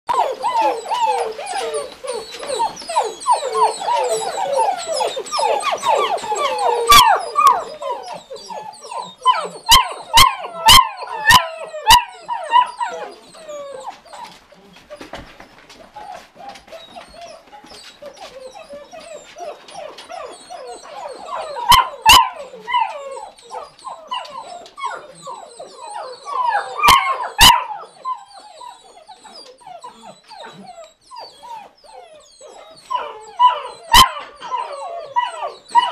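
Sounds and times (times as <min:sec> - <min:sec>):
puppies whining and yipping: 0:00.1 - 0:35.9.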